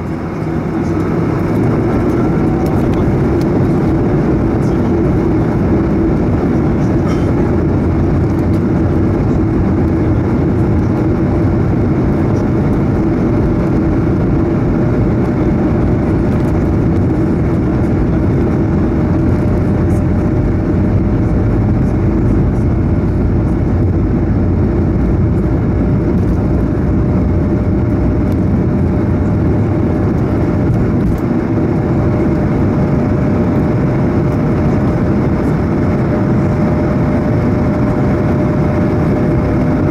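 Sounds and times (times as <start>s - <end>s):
jet engines roaring at takeoff: 0.0s - 39.9s
steady hum: 0.0s - 39.9s.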